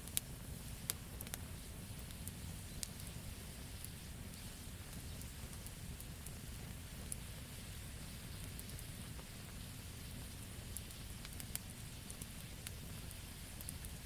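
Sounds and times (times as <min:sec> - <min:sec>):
campfire crackling and popping: 0:00.0 - 0:14.0
low rumble of flames: 0:00.0 - 0:14.0.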